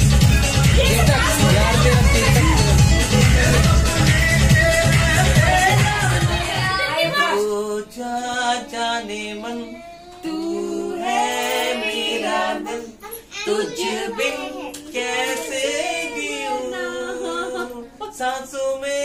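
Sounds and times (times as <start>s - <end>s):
people singing together: 0.7s - 19.0s
woman singing: 0.8s - 18.6s.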